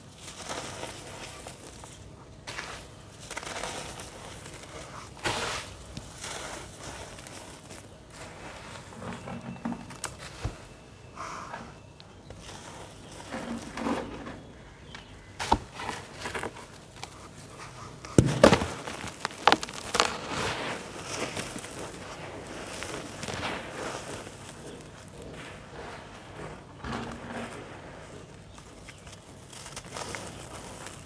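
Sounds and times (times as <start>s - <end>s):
hands crumbling damp sand: 0.0s - 13.8s, 14.4s - 31.0s.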